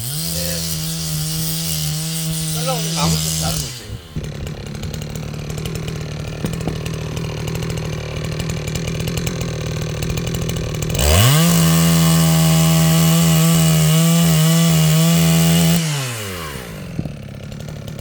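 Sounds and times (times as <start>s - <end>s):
chainsaw cutting logs: 0.0s - 18.0s
chainsaw idling and revving: 0.0s - 18.0s.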